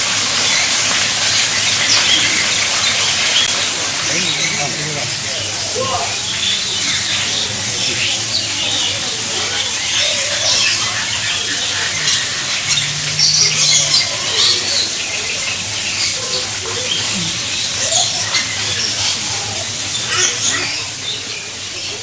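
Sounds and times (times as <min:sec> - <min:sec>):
faint voices: 0:00.0 - 0:22.0
birds squawking: 0:00.4 - 0:22.0.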